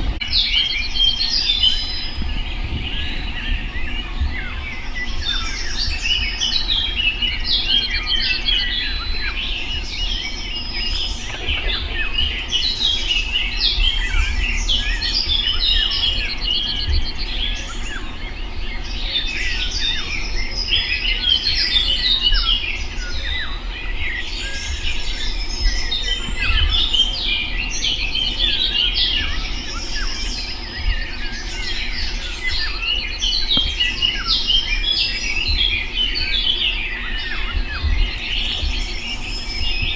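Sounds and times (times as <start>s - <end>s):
low steady rumble: 0.0s - 39.9s
songbirds chirping and trilling: 0.0s - 39.9s.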